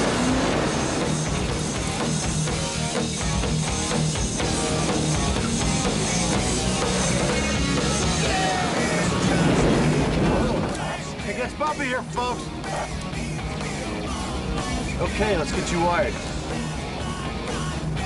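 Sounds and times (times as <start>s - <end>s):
rock music with drums and guitar: 0.0s - 18.0s.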